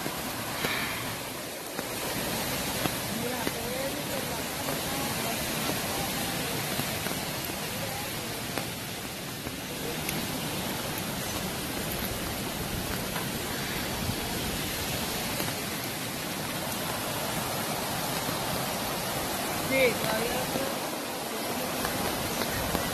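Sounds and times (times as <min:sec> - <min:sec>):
falling rain: 0:00.0 - 0:22.9
floodwater rushing: 0:00.0 - 0:22.9.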